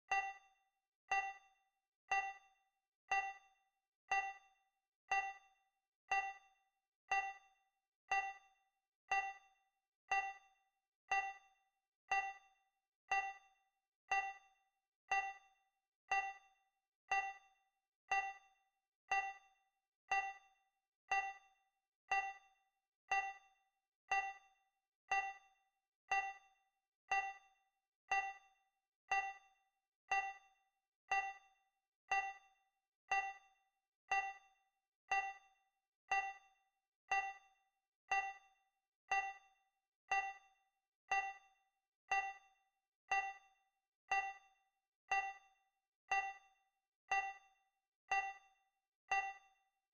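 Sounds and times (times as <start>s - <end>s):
timer ticking with ringing dings: 0.0s - 49.9s.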